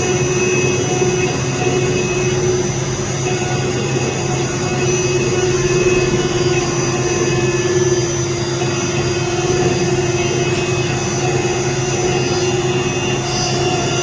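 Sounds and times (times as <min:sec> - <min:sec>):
engraving machine whining: 0:00.0 - 0:14.0.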